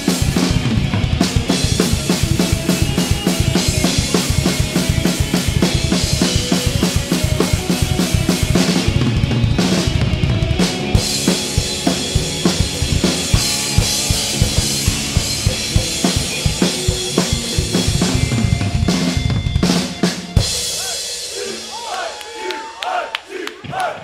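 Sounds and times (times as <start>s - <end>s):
sustained guitar tones: 0.0s - 20.7s.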